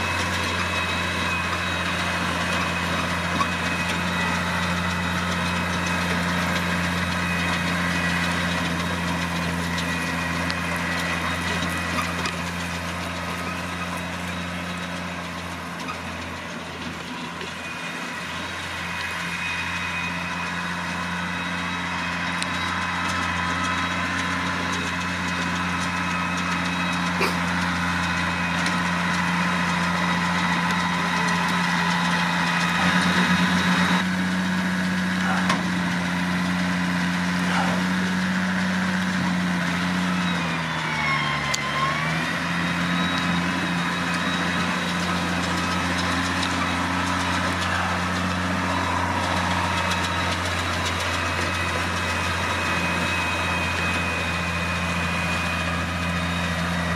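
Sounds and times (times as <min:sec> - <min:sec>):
baler machinery humming: 0:00.0 - 0:56.9
tractor diesel engine running: 0:00.0 - 0:56.9.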